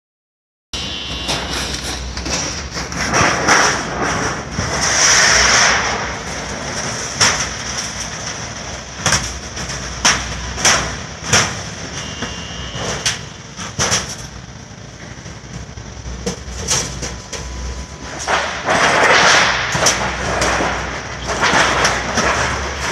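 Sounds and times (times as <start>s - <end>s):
loud rushing noise: 0.8s - 22.9s
machine mechanical drone: 0.8s - 22.9s.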